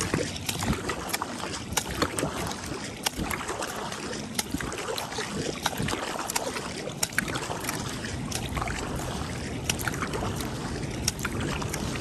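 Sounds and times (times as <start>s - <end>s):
paddle strokes in water: 0.0s - 12.0s
water splashes and drips: 0.0s - 12.0s.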